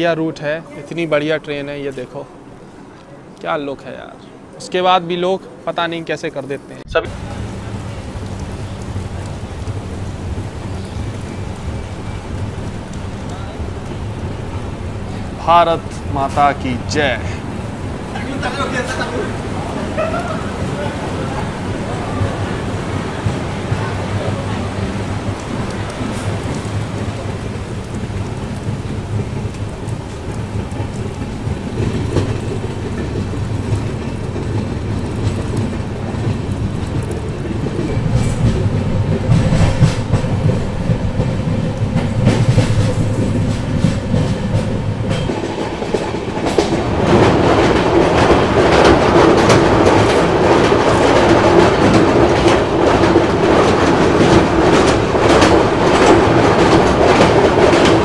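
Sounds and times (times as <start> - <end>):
train wheels clattering over rail joints: 7.4 - 58.0.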